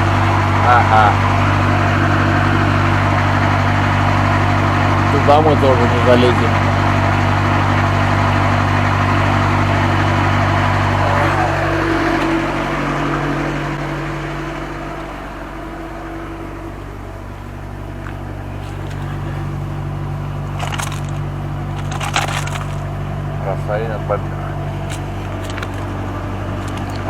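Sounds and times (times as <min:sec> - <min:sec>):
truck diesel engine idling: 0:00.0 - 0:27.0.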